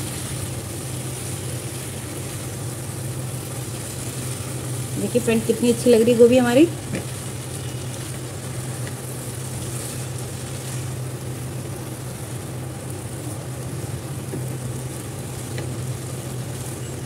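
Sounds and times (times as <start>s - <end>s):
spatula stirring in pan: 0.0s - 17.0s
steady low hum: 0.0s - 17.0s
vegetables sizzling in a pan: 0.0s - 17.0s.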